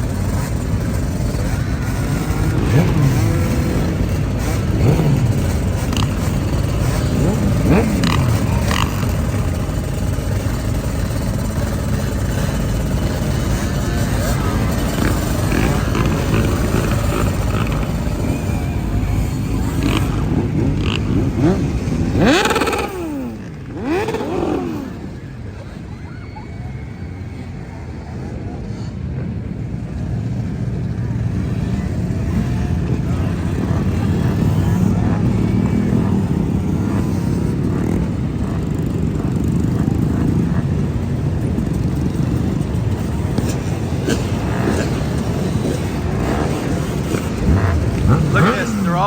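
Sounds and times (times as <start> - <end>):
motorcycles riding past: 0.0 - 49.0.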